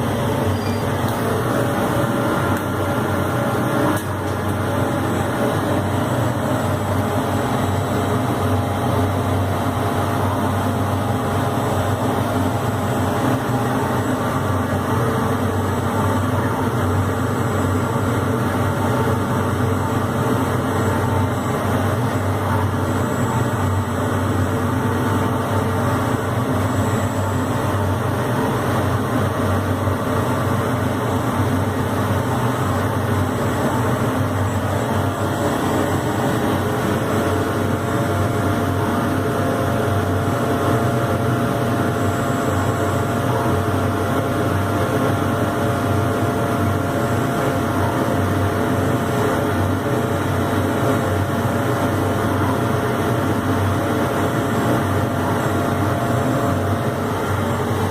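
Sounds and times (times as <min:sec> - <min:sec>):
laser cutter machine hum: 0:00.0 - 0:57.9.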